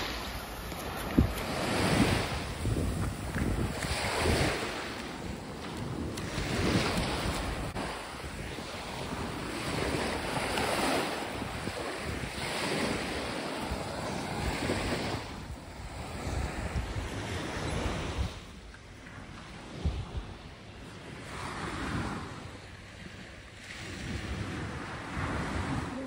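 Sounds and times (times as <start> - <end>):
waves washing up a beach: 0.0 - 26.0
wind rumbling on microphone: 0.0 - 26.0.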